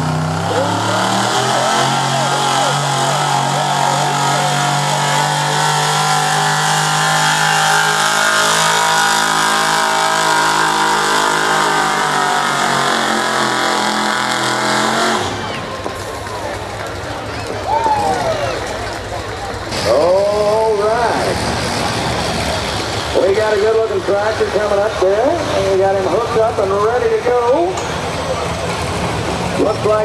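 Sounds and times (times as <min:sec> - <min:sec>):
truck engine at full throttle: 0:00.0 - 0:30.0.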